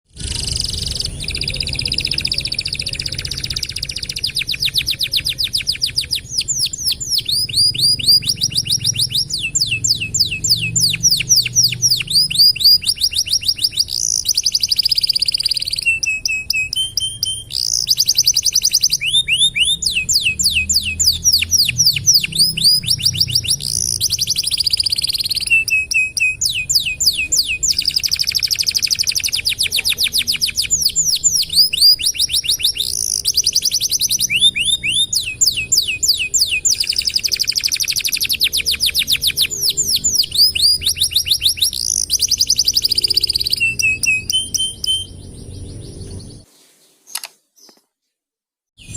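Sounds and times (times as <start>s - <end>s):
canary singing rolling trills: 0.1s - 47.8s.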